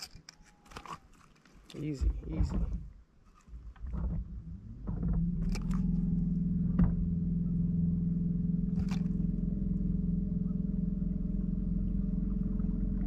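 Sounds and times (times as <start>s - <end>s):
motor hum: 2.0s - 13.0s.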